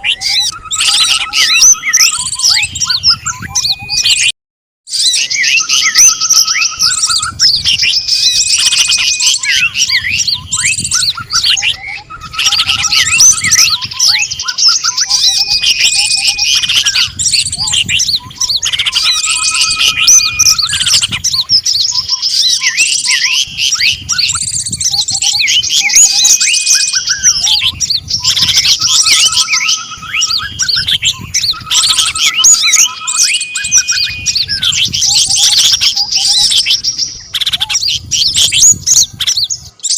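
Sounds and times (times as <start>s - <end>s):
songbirds chirping and trilling: 0.0s - 4.3s, 4.9s - 39.9s
steady whistled notes: 5.2s - 37.3s.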